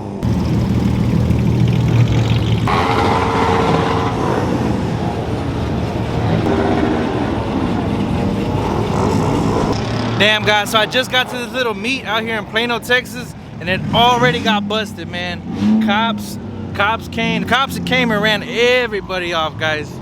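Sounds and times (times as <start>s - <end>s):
car engines running: 0.0s - 20.0s
cars driving by: 0.0s - 20.0s.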